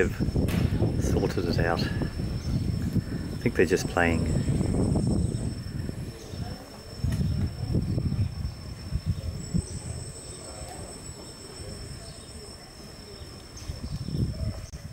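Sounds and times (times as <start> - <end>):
low rumbling noise: 0.0 - 12.7
pulsing buzz: 0.0 - 14.4
insects droning: 0.0 - 14.9.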